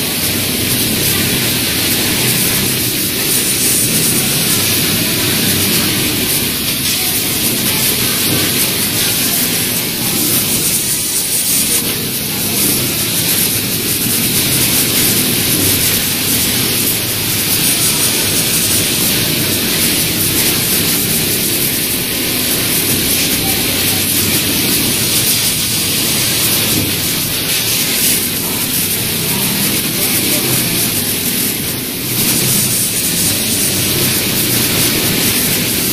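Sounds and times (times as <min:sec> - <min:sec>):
sewing machines running: 0:00.0 - 0:35.9.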